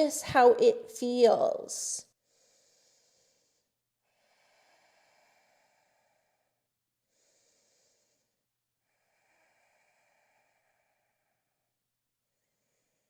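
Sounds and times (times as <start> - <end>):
faint slow breathing: 2.1 - 13.0.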